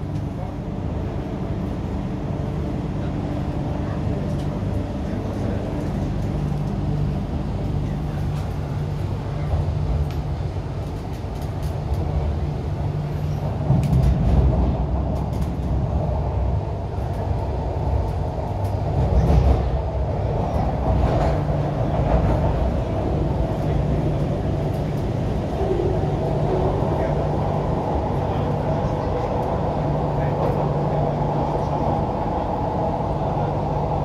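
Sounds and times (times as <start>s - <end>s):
train interior running rumble: 0.0s - 34.0s.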